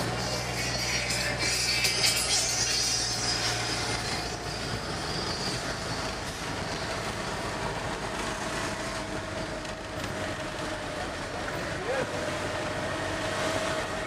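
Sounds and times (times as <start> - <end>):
road and engine noise: 0.0 - 14.0.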